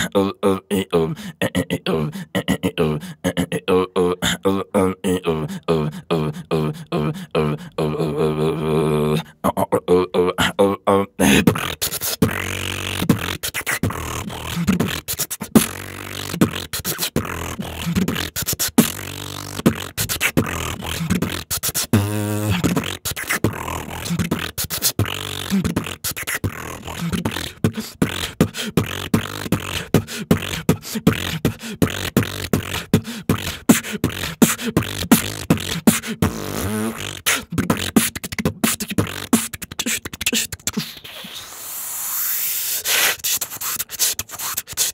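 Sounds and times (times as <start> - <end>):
mouth percussion beatboxing: 0.0 - 44.9
short pitched vocal notes: 0.0 - 44.9.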